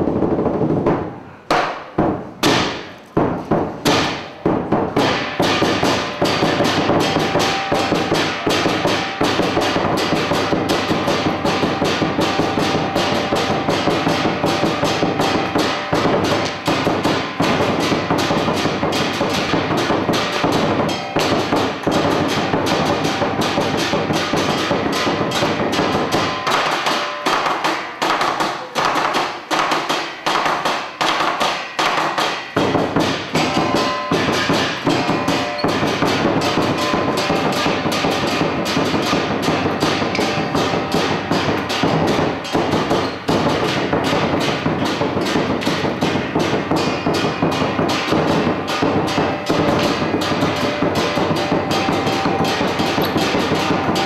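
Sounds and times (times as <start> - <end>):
drum beats: 1.9 - 29.2, 29.8 - 54.0
cymbal crashes: 5.0 - 28.0, 32.4 - 54.0.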